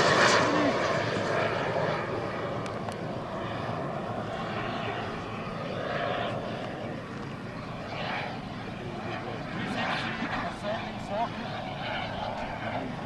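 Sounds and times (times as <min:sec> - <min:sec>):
distant model jet turbine rush: 0:00.0 - 0:13.0.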